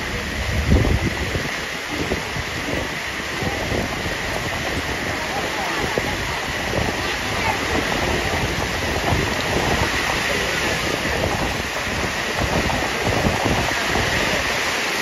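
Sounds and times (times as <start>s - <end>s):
heavy rain hissing: 0.0s - 15.0s
wind buffeting microphone: 0.0s - 15.0s.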